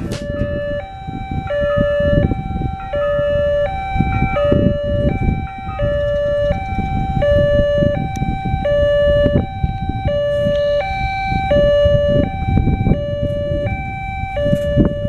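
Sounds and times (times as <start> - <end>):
low rumbling noise: 0.0 - 15.0
two-tone electronic warning chime: 0.0 - 15.0.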